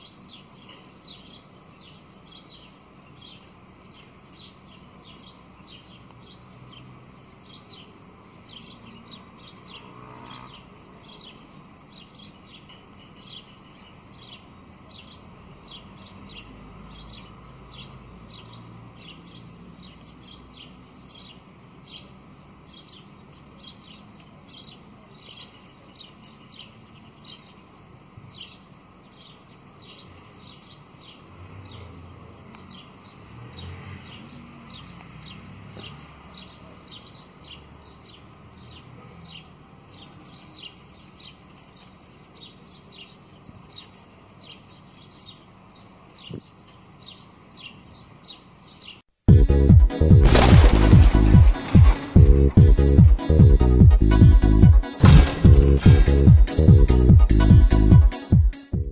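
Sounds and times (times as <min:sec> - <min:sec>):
sparrows chirping: 0:00.0 - 0:58.7.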